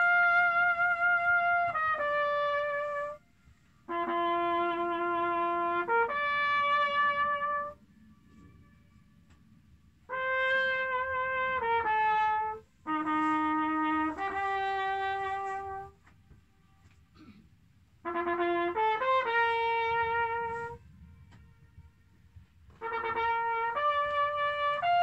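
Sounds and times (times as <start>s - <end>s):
brass horn playing held notes: 0.0s - 9.0s, 10.0s - 16.1s, 18.0s - 25.0s
horn echo off cliffs: 0.0s - 9.1s, 10.0s - 16.1s, 18.0s - 25.0s.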